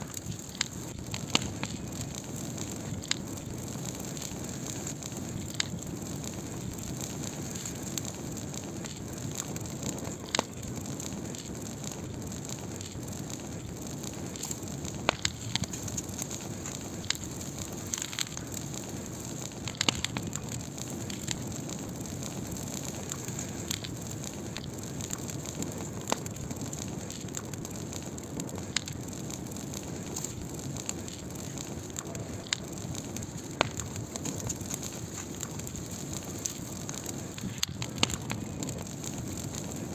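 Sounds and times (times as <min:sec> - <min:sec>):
fire pops and crackles: 0:00.0 - 0:39.9
wood fire hissing: 0:00.0 - 0:39.9.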